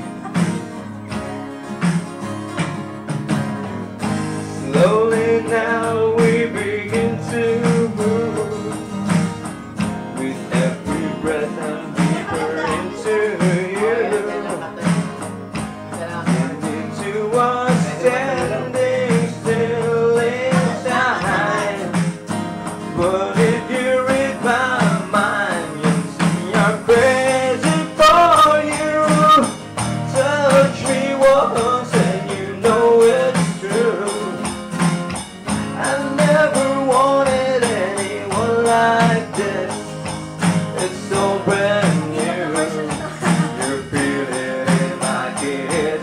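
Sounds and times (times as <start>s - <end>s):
strummed acoustic guitar: 0.0s - 46.0s
tambourine pulse: 0.0s - 46.0s.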